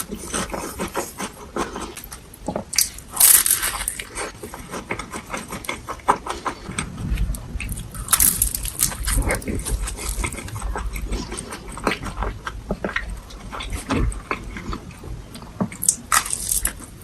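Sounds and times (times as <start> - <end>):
crunchy biting and chewing: 0.0 - 17.0.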